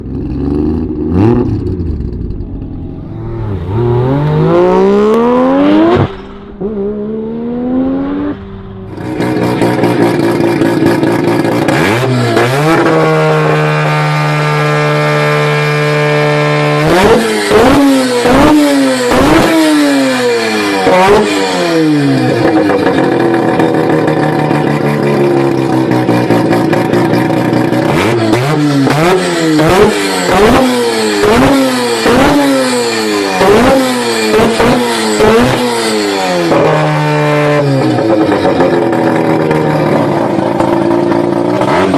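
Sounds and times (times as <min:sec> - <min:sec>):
rotary engine revving: 0:00.0 - 0:41.9.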